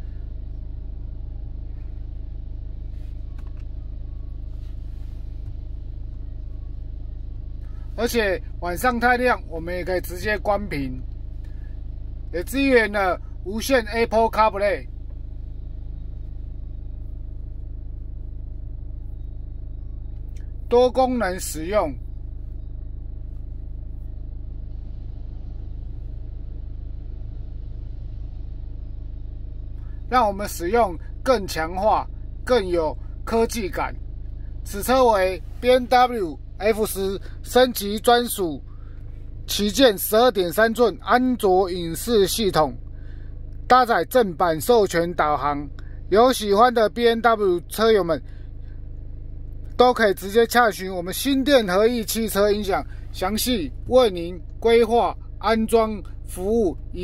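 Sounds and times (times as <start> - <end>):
car engine idling: 0.0 - 57.0
faint even hum: 0.0 - 57.0.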